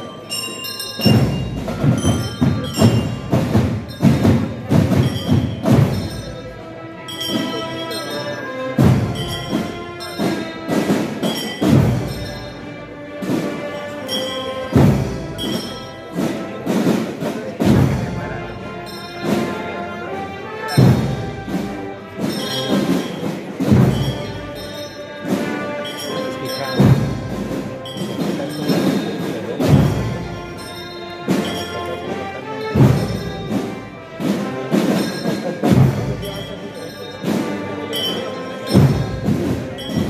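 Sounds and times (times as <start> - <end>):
ringing bell-like tones: 0.0 - 12.8, 13.7 - 16.2, 22.2 - 33.9, 34.9 - 40.0
marching band playing: 0.0 - 40.0
heavy drum strokes: 0.8 - 40.0.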